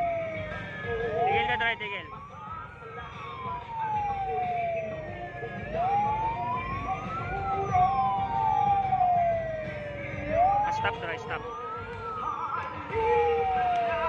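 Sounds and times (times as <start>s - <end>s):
vehicle engines rumbling: 0.0s - 14.0s
vehicle siren wailing: 0.0s - 14.0s.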